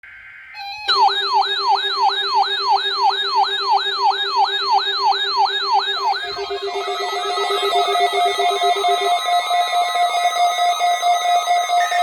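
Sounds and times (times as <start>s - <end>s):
electronic siren sweeps: 0.5s - 12.0s.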